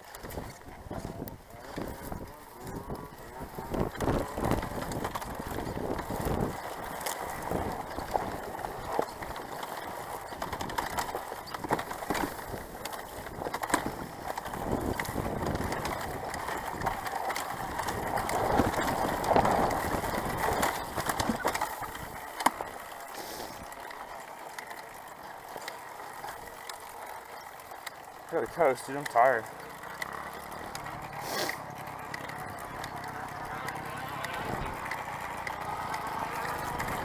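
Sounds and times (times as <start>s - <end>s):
bike clicking and rattling: 0.0s - 37.0s
tyres crunching on dirt: 0.0s - 37.0s.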